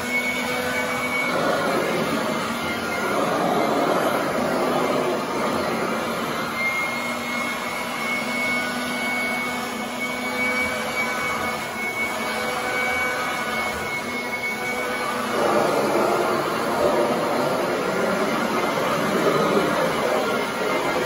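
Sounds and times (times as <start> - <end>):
thin high whine: 0.0 - 21.0
vacuum cleaner running on carpet: 0.0 - 21.0.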